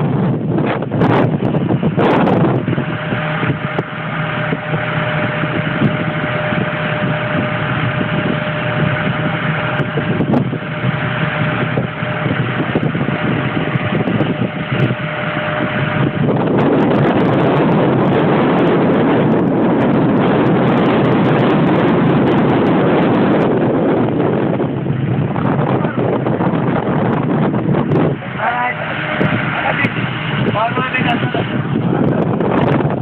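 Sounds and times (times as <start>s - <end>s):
motorboat engine running: 0.0s - 33.0s
steady whine: 0.0s - 33.0s
wind noise on microphone: 0.0s - 33.0s.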